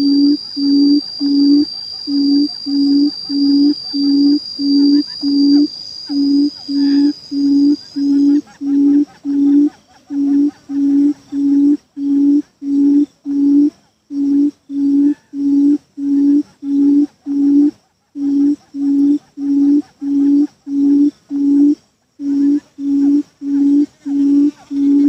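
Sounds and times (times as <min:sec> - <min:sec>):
buttonquail hooting call: 0:00.0 - 0:25.0.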